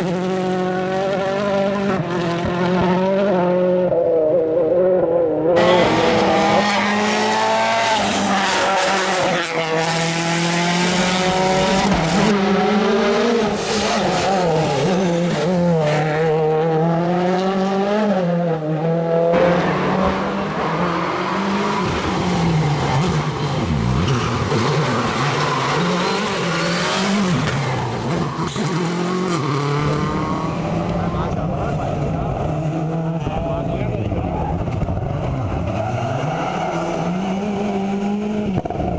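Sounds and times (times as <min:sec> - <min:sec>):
rally car engine at full throttle: 0:00.0 - 0:38.9.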